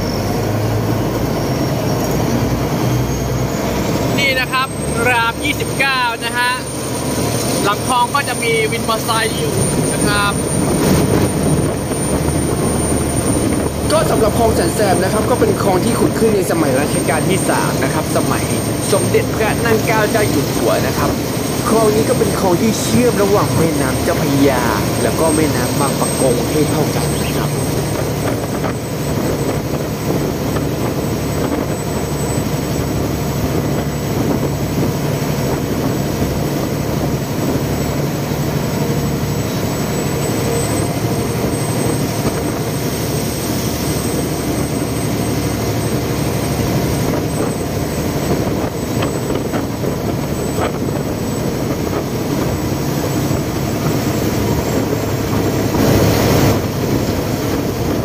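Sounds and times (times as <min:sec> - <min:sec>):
boat diesel engine running: 0:00.0 - 0:58.0
water rushing along hull: 0:00.0 - 0:58.0
wind on microphone: 0:09.5 - 0:58.0.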